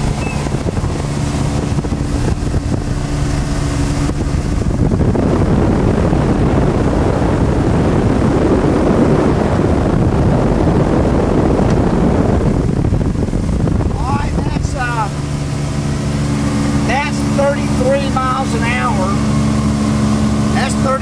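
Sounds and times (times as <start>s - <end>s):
outboard motor running: 0.0s - 21.0s
water rushing along hull: 0.0s - 21.0s
wind buffeting microphone: 0.0s - 21.0s.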